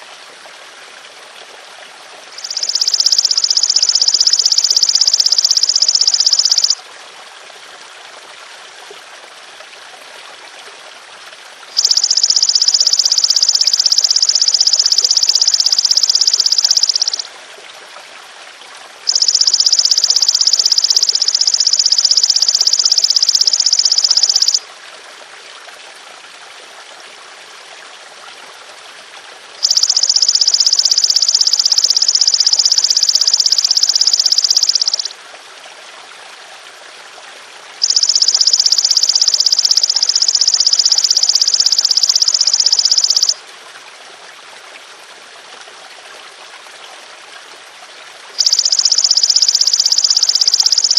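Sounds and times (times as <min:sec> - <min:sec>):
trickling water: 0:00.0 - 0:50.9.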